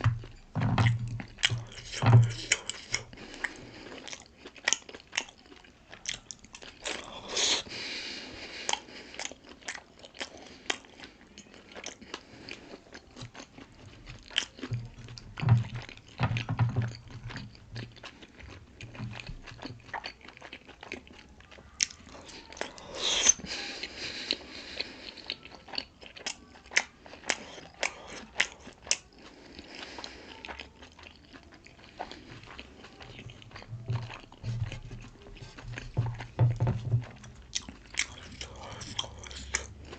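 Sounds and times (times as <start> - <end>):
close chewing and biting: 0.0 - 39.9.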